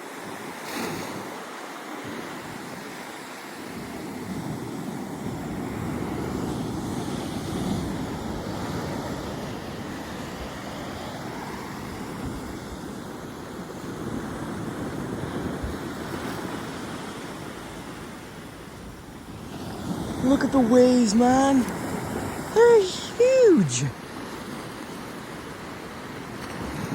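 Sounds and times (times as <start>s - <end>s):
ocean surf breaking: 0.2s - 26.9s.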